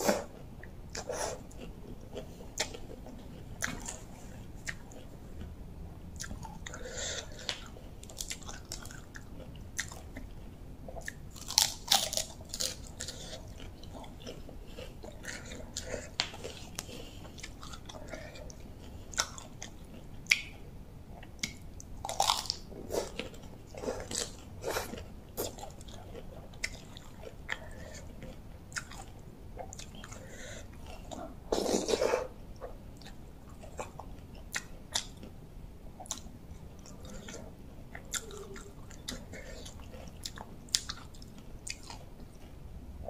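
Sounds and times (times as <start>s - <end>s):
person chewing with mouth clicks: 0.1s - 20.6s, 21.2s - 35.4s, 36.0s - 42.6s.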